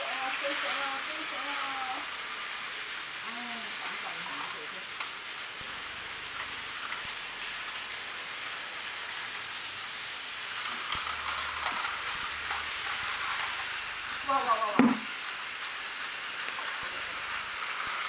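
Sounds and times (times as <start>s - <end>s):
toy trains whirring on track: 0.0s - 18.0s.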